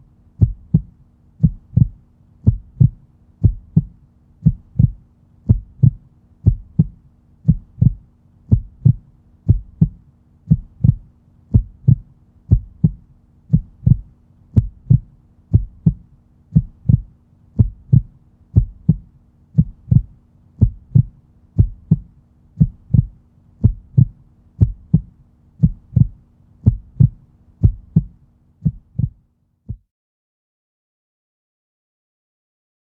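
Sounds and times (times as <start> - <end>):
faint hum: 0.0 - 29.8
heartbeat thumps: 0.4 - 29.9.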